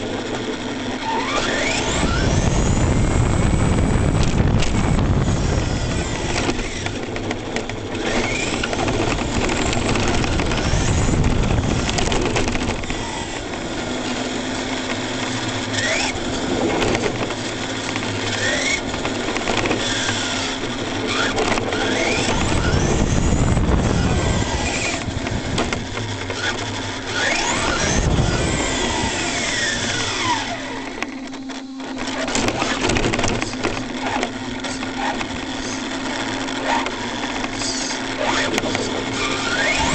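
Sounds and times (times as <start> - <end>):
tyres rushing on asphalt: 0.0 - 31.2, 31.9 - 39.9
electric motor whining: 0.0 - 39.9.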